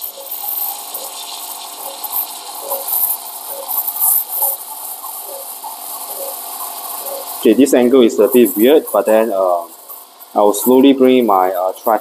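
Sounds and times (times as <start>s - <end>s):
steam wand hissing into milk: 0.0s - 12.0s.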